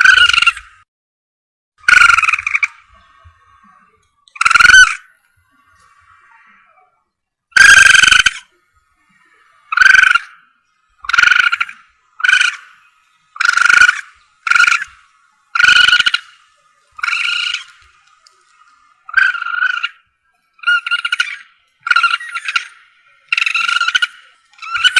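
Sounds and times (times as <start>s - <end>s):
civet high cries: 1.8s - 6.9s, 7.6s - 8.6s, 9.6s - 24.9s.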